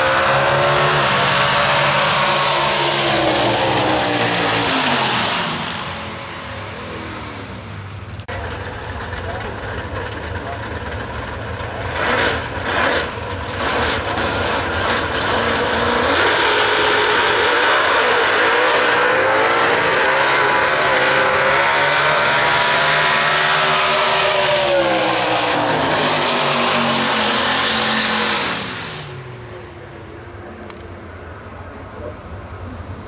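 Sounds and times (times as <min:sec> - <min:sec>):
cars at full throttle: 0:00.0 - 0:33.0
drag racing cars revving: 0:00.0 - 0:33.0.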